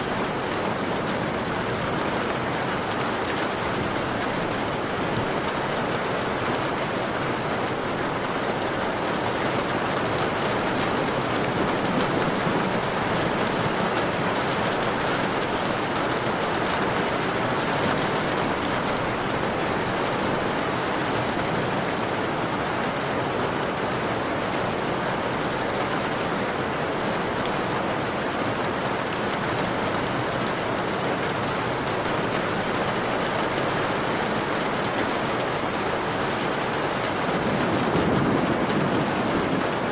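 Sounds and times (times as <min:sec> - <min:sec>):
rain on window glass: 0:00.0 - 0:39.9.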